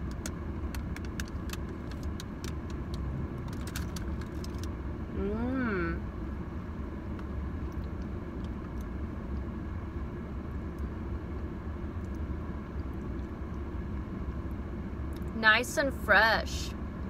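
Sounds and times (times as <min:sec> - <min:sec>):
low rumble inside car: 0:00.0 - 0:17.0.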